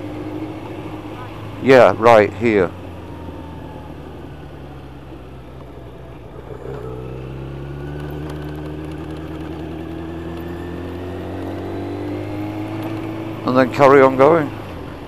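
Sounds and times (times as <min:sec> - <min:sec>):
motorcycle engine accelerating: 0:00.0 - 0:15.0
wind and road noise: 0:00.0 - 0:15.0.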